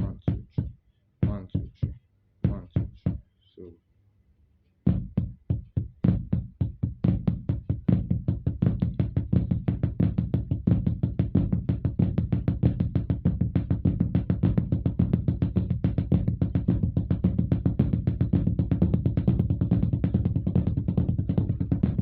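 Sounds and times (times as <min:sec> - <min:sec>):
drum played with sticks: 0:00.0 - 0:03.2, 0:04.9 - 0:22.0.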